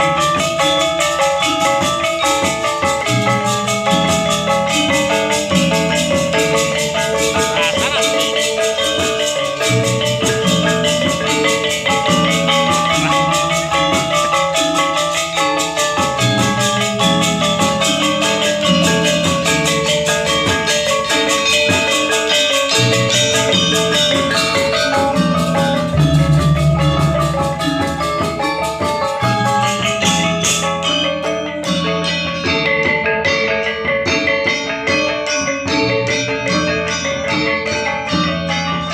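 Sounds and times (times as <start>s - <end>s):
gamelan ensemble playing: 0.0s - 38.9s.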